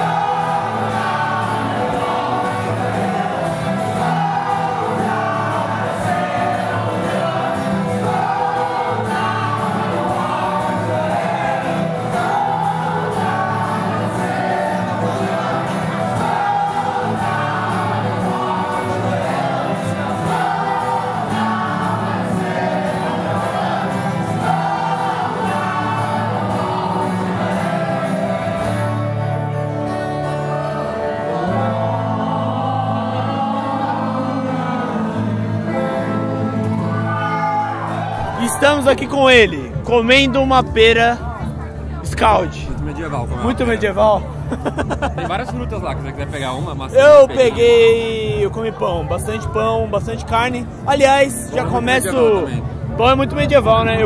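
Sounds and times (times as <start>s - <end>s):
voices singing together: 0.0s - 42.7s, 43.3s - 45.8s
acoustic guitars strumming: 0.0s - 54.0s.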